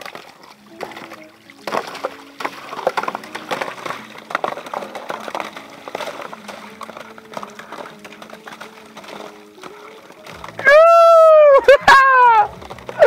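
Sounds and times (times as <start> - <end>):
ice snapping and clinking: 0.0 - 13.0
water trickling: 0.0 - 13.0.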